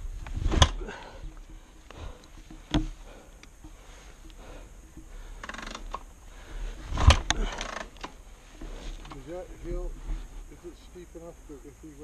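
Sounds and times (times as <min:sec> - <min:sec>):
light clicks and knocks: 0:00.2 - 0:10.6.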